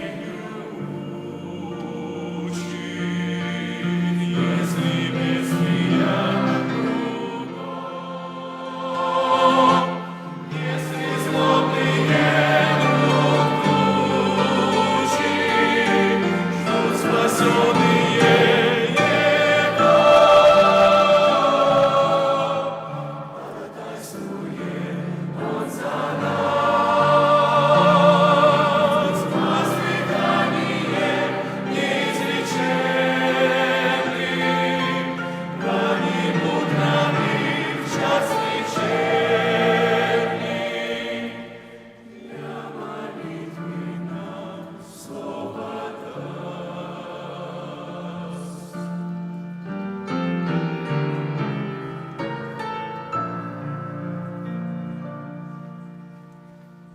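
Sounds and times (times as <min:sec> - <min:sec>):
choir singing a hymn: 0:00.0 - 0:56.9
musical accompaniment: 0:00.0 - 0:56.9.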